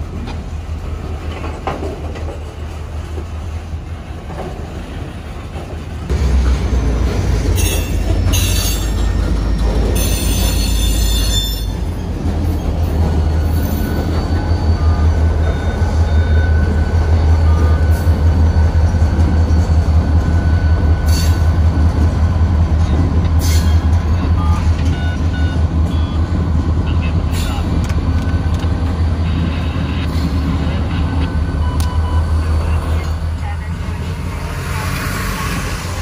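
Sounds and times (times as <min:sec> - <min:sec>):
diesel train rumble: 0:00.0 - 0:36.0.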